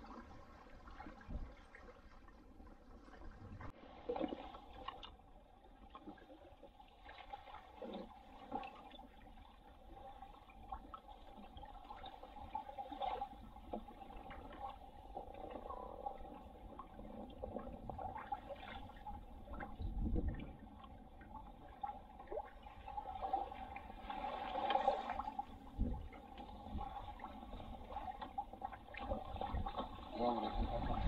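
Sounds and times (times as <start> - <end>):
water splashing along a boat hull: 0.0 - 31.0.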